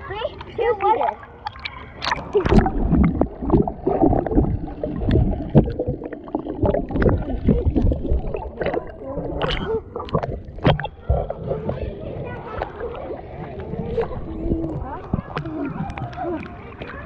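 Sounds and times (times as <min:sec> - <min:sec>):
pool water sloshing and gurgling: 0:00.0 - 0:17.0.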